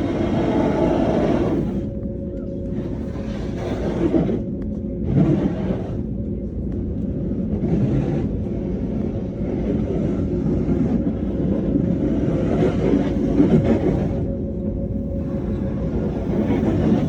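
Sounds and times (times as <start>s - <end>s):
aircraft low rumble: 0.0s - 17.0s.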